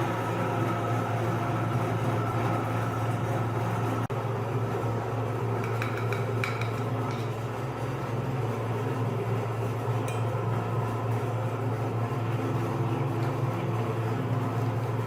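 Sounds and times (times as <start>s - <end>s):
meat grinder motor humming: 0.0s - 15.0s.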